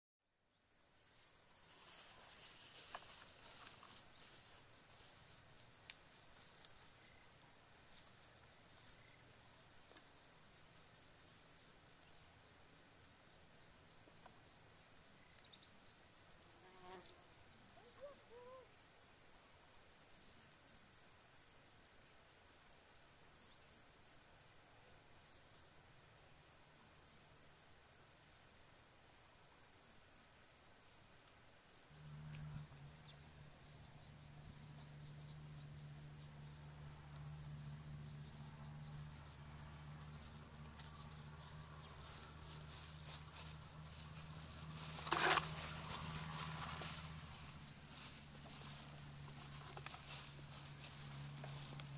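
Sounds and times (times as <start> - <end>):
insects chirping: 0.7 - 51.9.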